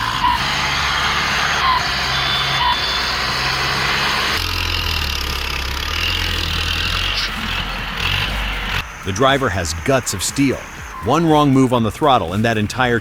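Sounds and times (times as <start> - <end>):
deeper engine drone: 0.0 - 12.6
heavy vehicle engine running: 0.0 - 13.0.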